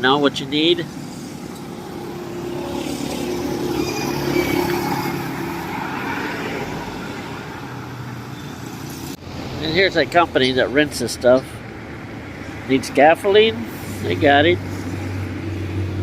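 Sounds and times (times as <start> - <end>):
street traffic: 0.0 - 16.0
vehicle passing by: 0.0 - 16.0.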